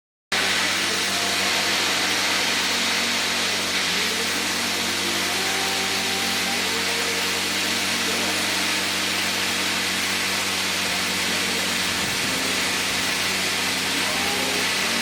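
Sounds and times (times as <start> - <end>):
plasma cutter hissing: 0.3 - 15.0.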